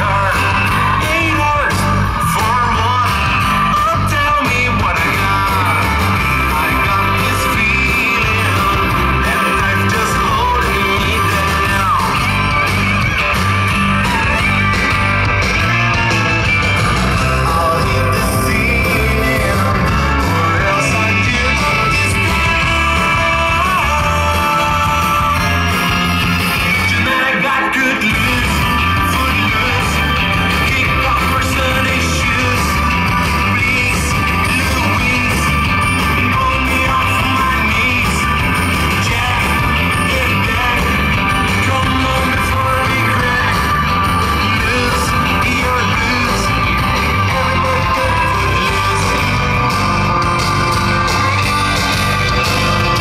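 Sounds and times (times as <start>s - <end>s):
song with singing over a beat: 0.0s - 53.0s.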